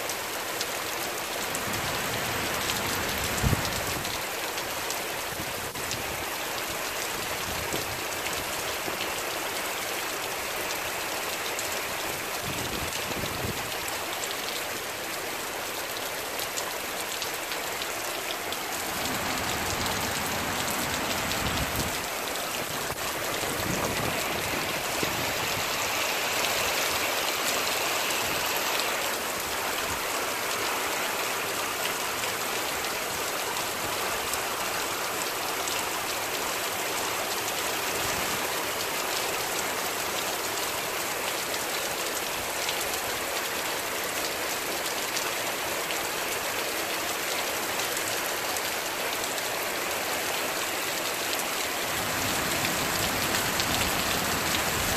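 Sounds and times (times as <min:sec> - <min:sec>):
heavy rain on asphalt: 0:00.0 - 0:54.9.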